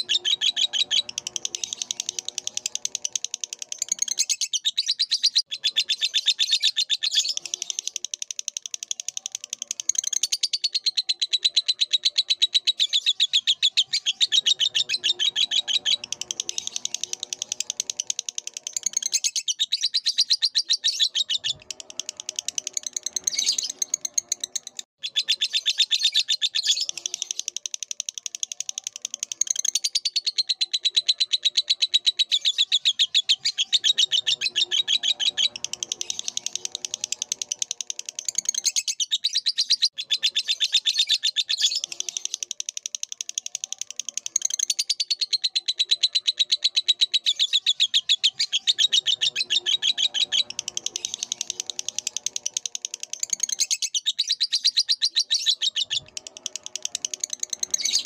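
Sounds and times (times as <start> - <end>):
lovebird chattering: 0.0 - 58.0.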